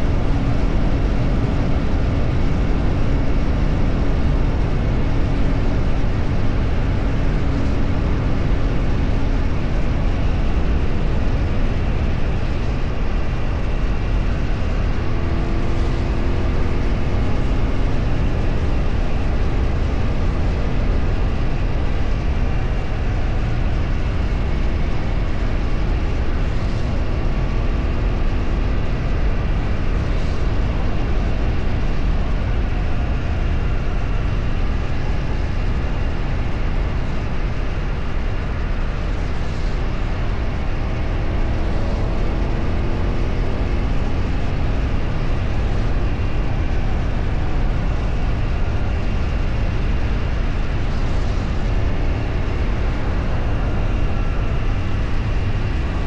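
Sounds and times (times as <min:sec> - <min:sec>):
wind rush and road noise: 0:00.0 - 0:56.0.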